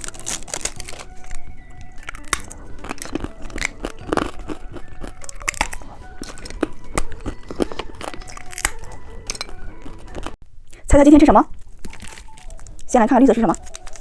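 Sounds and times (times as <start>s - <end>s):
hard candy crunching: 0.0s - 10.8s, 11.5s - 12.9s, 13.5s - 14.0s.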